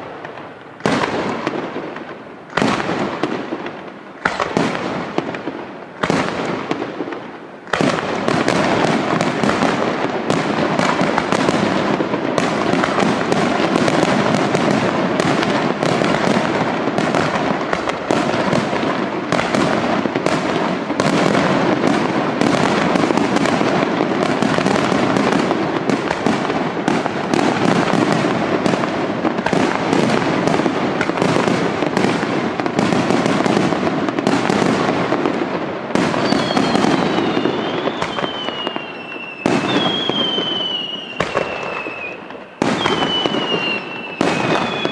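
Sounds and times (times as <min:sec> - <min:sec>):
fireworks bursting and crackling: 0:00.0 - 0:44.9.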